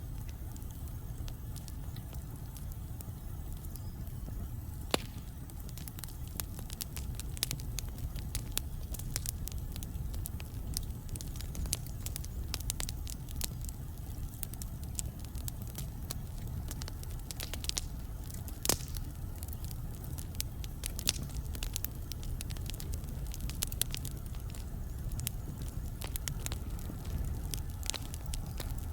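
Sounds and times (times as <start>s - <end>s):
fire crackles and snaps: 0.0s - 28.9s
low rumble of flames: 0.0s - 28.9s.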